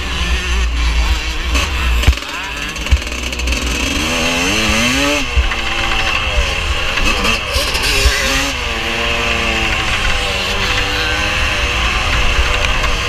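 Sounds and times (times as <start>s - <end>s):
motocross bike engine accelerating: 0.0s - 13.0s
wind rushing over microphone: 1.1s - 13.0s.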